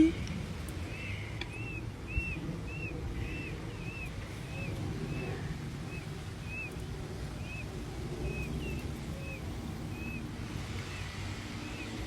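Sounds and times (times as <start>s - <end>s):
distant traffic: 0.0s - 12.0s
wind rumble: 0.0s - 12.0s.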